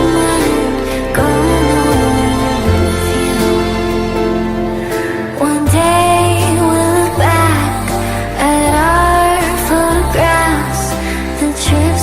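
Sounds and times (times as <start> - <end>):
pop song: 0.0 - 12.0.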